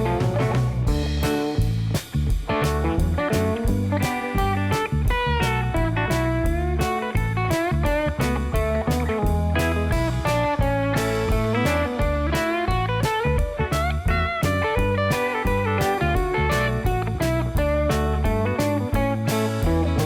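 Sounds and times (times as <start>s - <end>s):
bluesy electric guitar: 0.0s - 20.0s
drum beat and bass: 0.0s - 20.0s.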